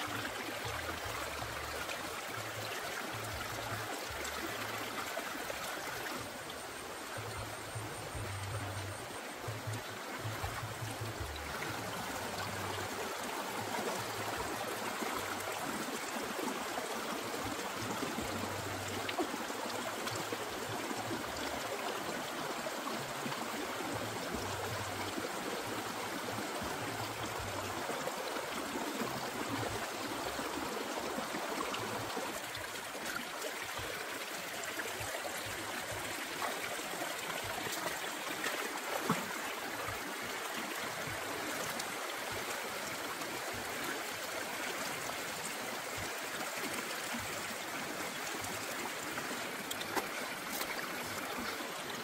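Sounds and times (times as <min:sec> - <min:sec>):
stream running over stones: 0:00.0 - 0:52.0.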